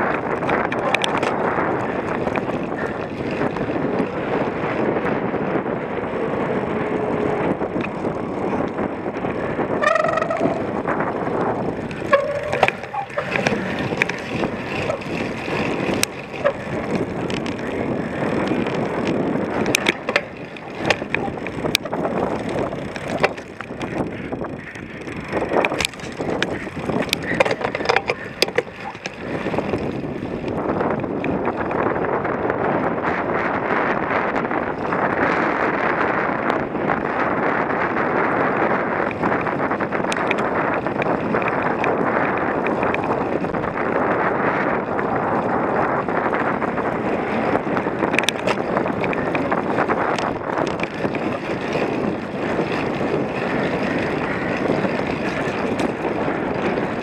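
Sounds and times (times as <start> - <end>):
bike rattling and knocking: 0.0 - 57.0
wind rushing over microphone: 0.0 - 57.0.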